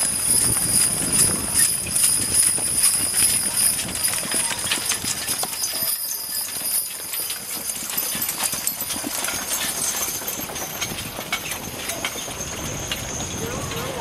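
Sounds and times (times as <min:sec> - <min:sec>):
harness and wagons clinking: 0:00.0 - 0:14.0
hooves clip-clopping on dirt: 0:00.0 - 0:14.0.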